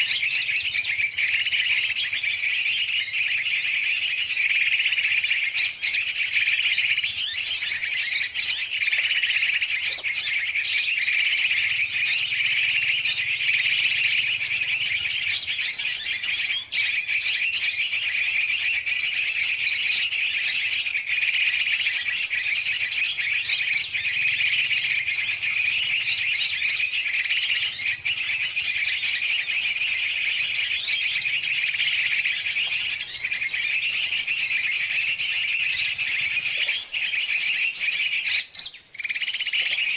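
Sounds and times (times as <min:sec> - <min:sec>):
birds chirping and twittering: 0:00.0 - 0:39.9
rapid high trilled bird phrases: 0:00.0 - 0:39.9.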